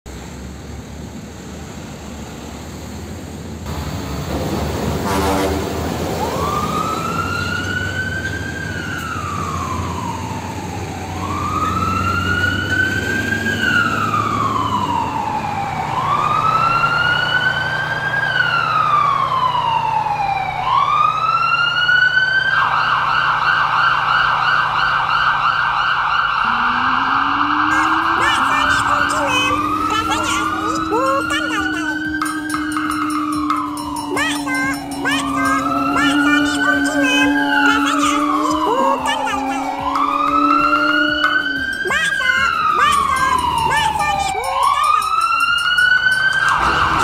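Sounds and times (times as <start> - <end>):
fire truck siren wailing: 3.6 - 47.0.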